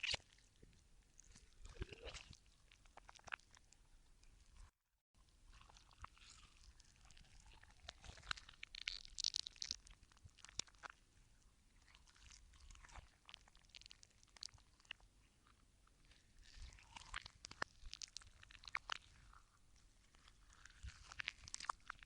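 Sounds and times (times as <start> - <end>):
slime squelching and crackling: 0.0 - 4.7, 5.4 - 22.0.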